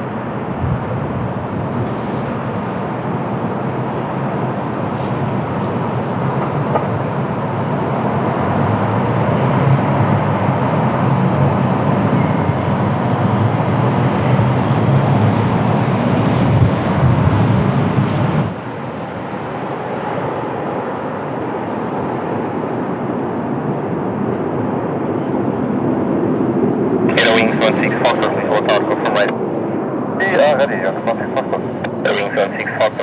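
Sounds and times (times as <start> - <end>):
jet airliner rumbling: 0.0 - 18.6, 23.7 - 33.0.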